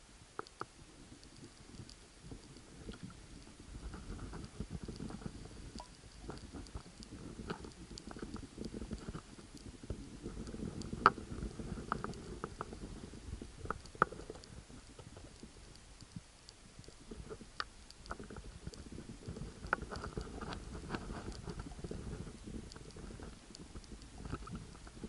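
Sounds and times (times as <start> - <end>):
muffled underwater rumble: 0.0 - 25.0.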